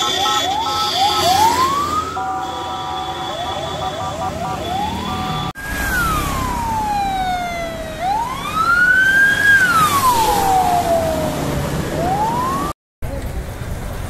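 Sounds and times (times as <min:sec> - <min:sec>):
ambulance siren wailing: 0:00.0 - 0:12.8
engine and road noise: 0:00.0 - 0:14.0.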